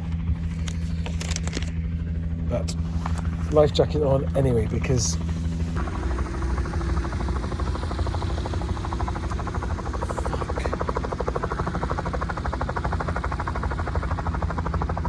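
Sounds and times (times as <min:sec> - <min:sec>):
helicopter engine drone: 0:00.0 - 0:15.0
helicopter rotor chop: 0:00.0 - 0:15.0.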